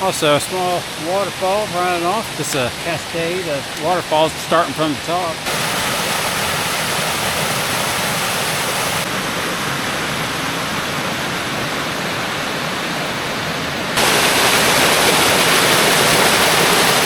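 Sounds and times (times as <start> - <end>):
water rushing down waterfalls: 0.0 - 17.0.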